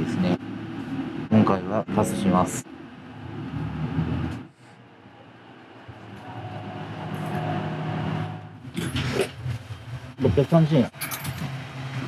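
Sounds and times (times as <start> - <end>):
bus engine hum from inside: 0.0 - 12.0.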